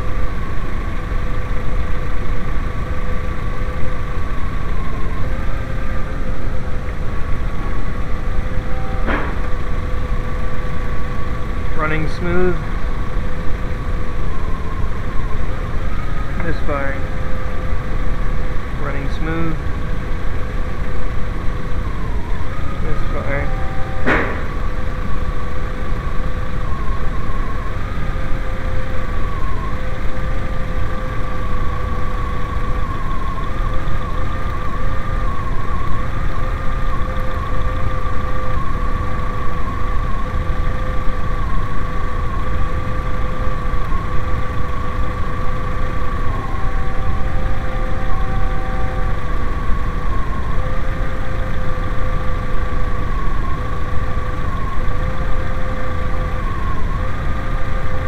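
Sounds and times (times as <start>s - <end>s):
car engine running with whine: 0.0s - 58.0s.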